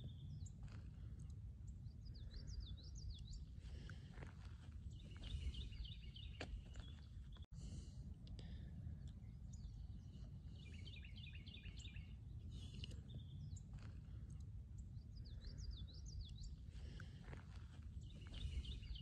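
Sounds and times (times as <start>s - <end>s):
songbirds singing: 0.0s - 19.0s
steady low rumble: 0.0s - 19.0s.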